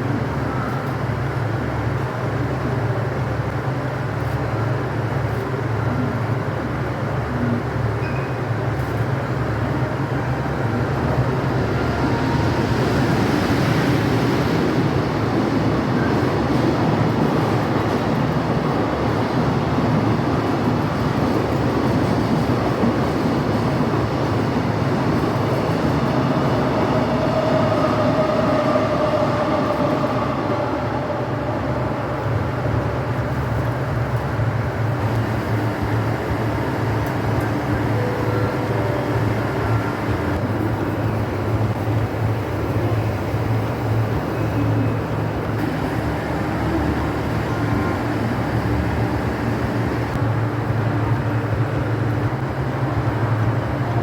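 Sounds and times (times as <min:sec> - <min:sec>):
diesel train rumbling: 0:00.0 - 0:54.0.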